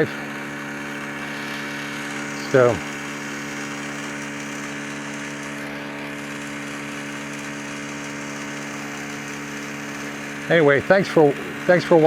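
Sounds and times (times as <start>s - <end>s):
electric pressure washer humming: 0.0s - 12.0s.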